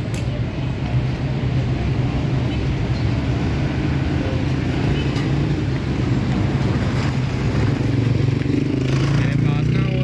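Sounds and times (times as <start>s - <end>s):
motor traffic rumble: 0.0s - 10.0s.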